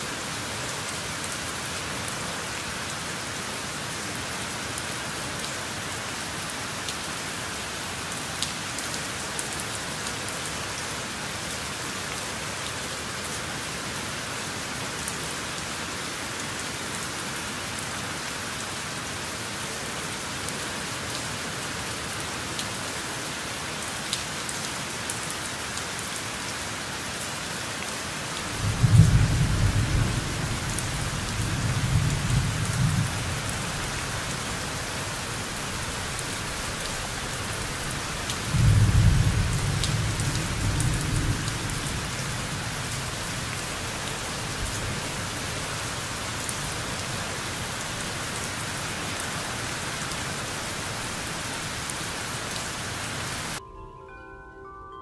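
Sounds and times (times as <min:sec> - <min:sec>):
steady rain falling: 0:00.0 - 0:53.6.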